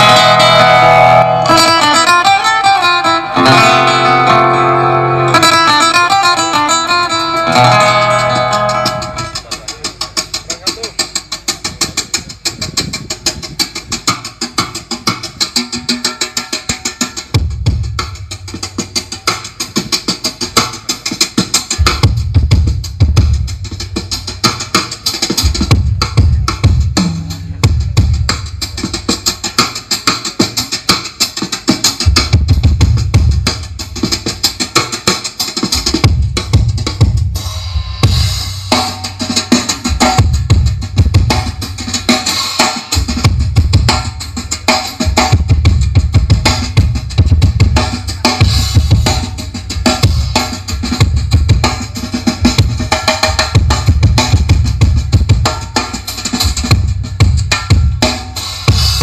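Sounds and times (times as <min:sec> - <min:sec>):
loud drum-heavy dance music: 0:00.0 - 0:59.0.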